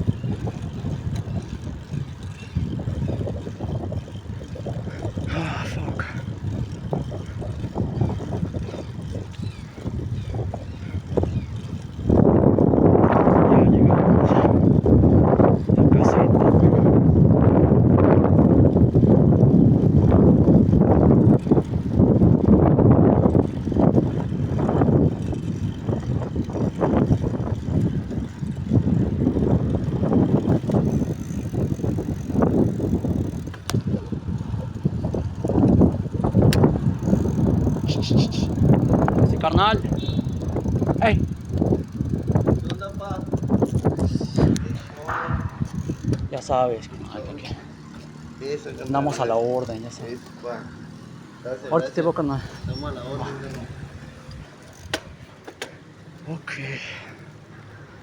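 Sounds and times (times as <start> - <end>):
road noise: 0.0 - 58.0
vehicle engine rumbling: 0.0 - 58.0
wind buffeting microphone: 0.0 - 58.0.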